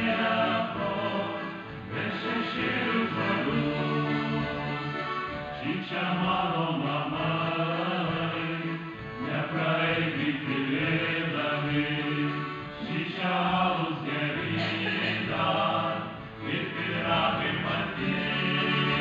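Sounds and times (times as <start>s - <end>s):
accordion: 0.0s - 19.0s
men singing in harmony: 0.0s - 19.0s.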